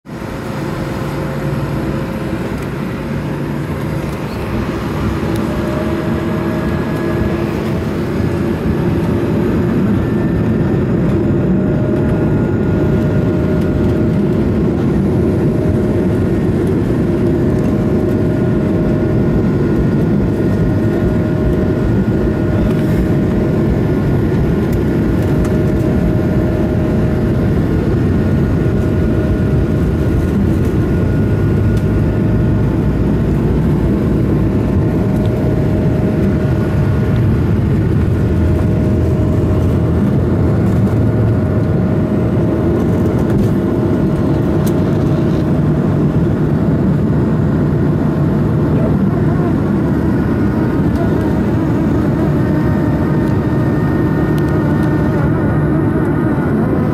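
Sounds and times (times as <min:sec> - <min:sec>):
jet engine whine: 0:00.0 - 0:56.9.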